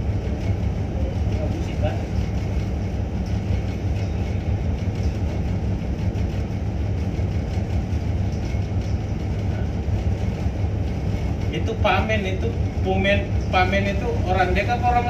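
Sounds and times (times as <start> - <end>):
diesel engines rumbling: 0.0 - 15.0.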